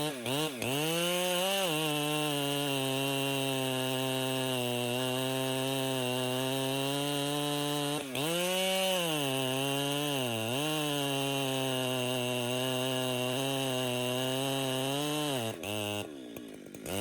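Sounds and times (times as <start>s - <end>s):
chainsaw running at high revs: 0.0s - 17.0s.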